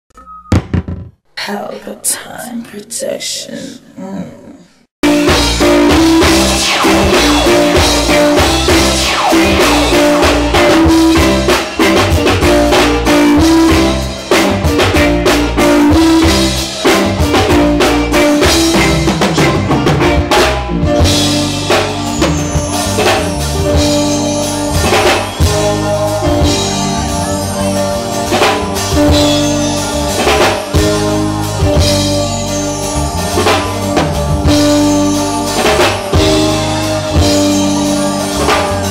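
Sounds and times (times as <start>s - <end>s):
reggae band playing: 5.0s - 38.9s.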